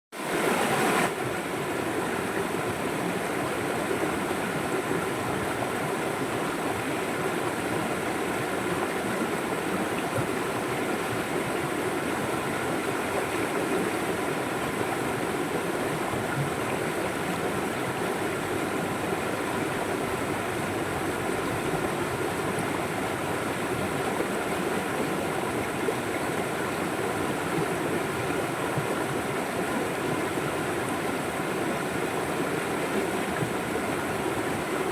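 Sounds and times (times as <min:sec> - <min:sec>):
river water flowing: 0:00.2 - 0:34.9.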